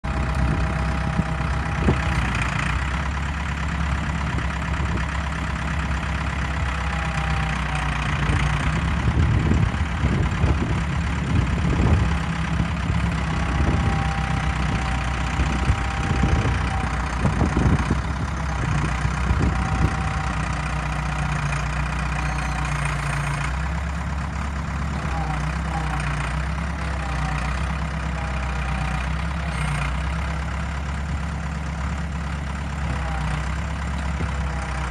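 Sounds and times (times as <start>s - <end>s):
backhoe engine running: 0.0s - 34.9s.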